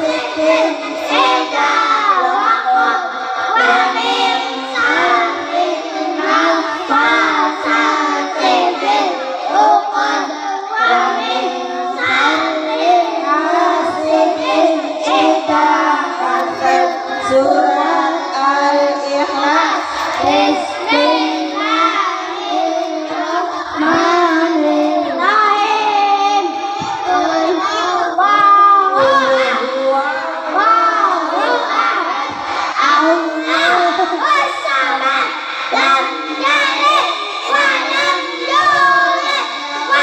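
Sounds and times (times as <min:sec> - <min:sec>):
boys chanting in unison: 0:00.0 - 0:40.0.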